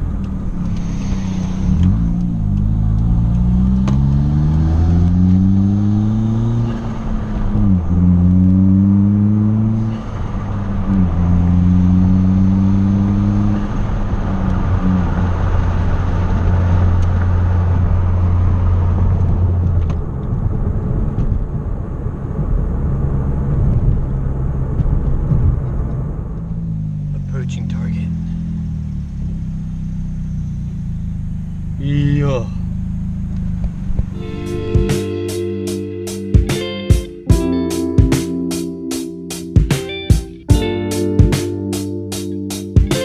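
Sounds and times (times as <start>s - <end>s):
car engine accelerating through gears: 0.0s - 43.0s.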